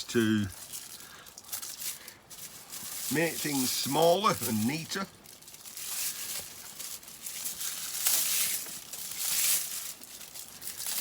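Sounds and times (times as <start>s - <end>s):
plastic cable jacket tearing: 0.0s - 11.0s.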